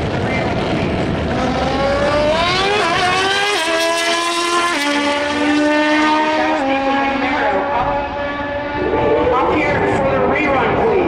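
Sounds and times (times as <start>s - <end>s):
motorcycle engine at full throttle: 0.0s - 11.0s.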